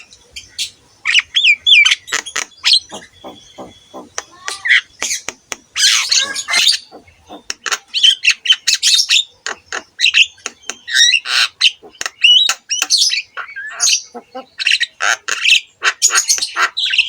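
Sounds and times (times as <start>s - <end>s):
myna bird singing: 0.0s - 17.0s.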